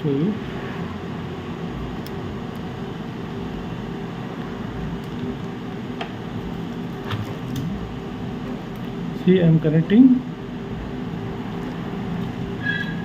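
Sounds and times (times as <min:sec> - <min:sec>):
machinery hum and hiss: 0:00.0 - 0:13.0.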